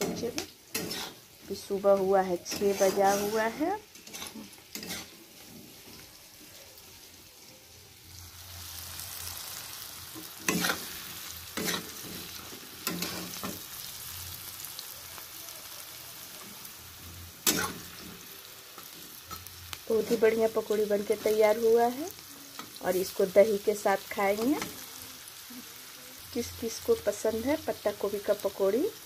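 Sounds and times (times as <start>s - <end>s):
deep-frying sizzle: 0.0s - 29.0s.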